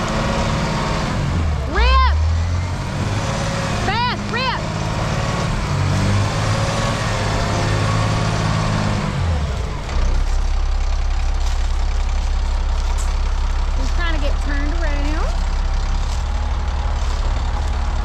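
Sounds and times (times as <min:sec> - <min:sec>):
haul truck engine running: 0:00.0 - 0:18.0.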